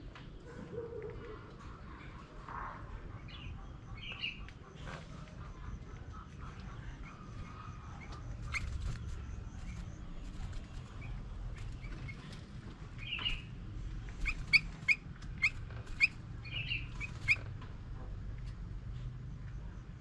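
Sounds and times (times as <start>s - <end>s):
low background rumble: 0.0s - 20.0s
songbird chirping: 0.1s - 17.6s.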